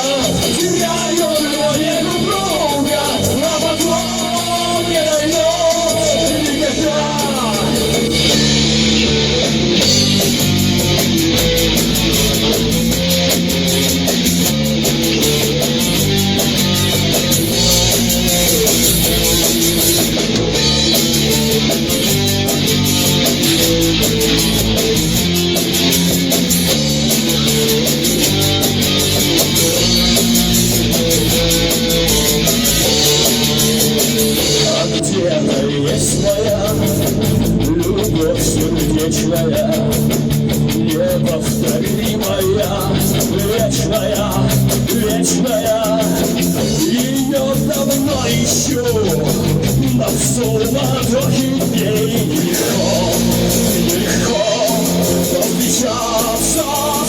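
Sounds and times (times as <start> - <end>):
bass: 0.0 - 57.0
electric guitar melody: 0.0 - 57.0
steady drum beat: 0.0 - 57.0.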